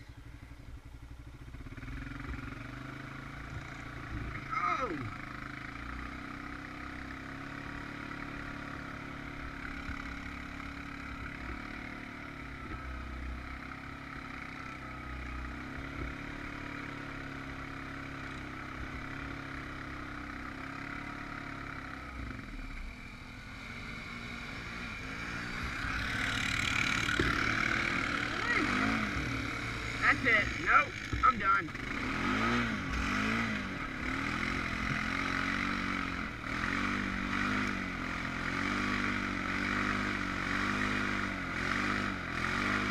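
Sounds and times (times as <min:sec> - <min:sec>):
atv engine running and revving: 0:00.0 - 0:42.9.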